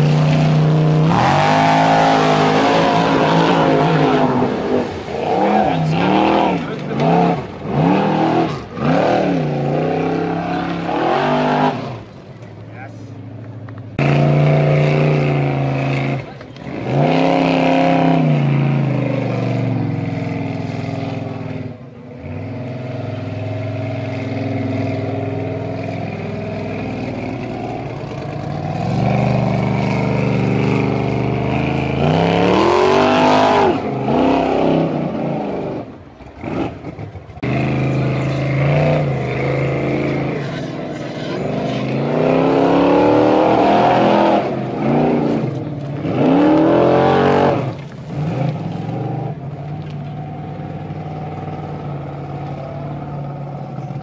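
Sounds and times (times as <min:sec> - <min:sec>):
car engine revving: 0:00.0 - 0:12.2, 0:13.3 - 0:54.0.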